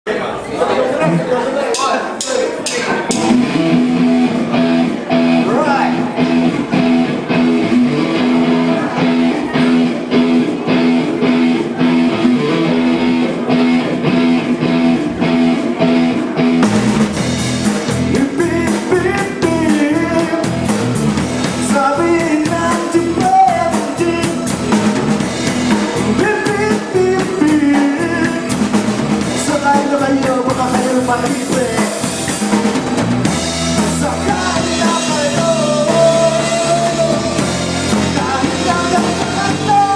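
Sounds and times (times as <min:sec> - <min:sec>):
live band playing: 0:00.9 - 0:39.9
drum kit playing: 0:01.7 - 0:39.9
guitar strumming: 0:01.8 - 0:39.9.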